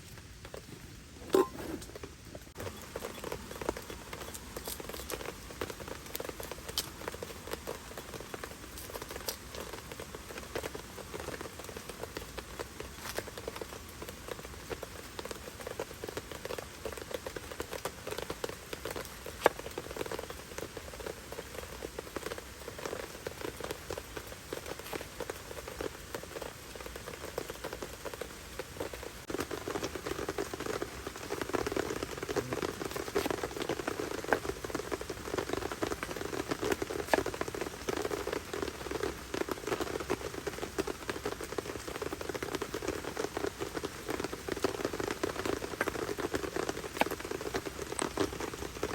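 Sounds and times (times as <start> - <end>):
heavy rain on tent fabric: 0.0 - 48.9.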